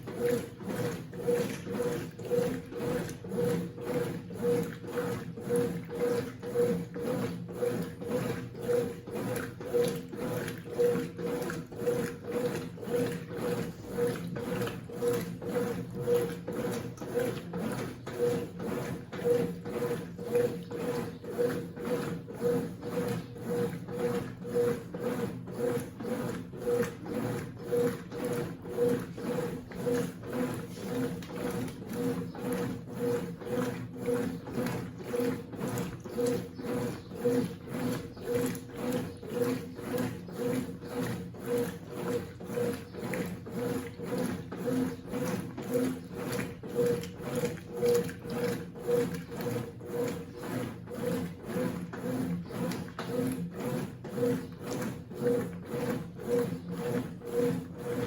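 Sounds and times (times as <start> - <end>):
washing machine agitating: 0.0 - 58.0.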